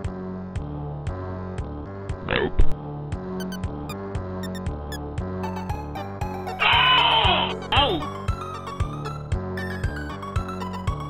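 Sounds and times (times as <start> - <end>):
video game music: 0.0 - 11.0.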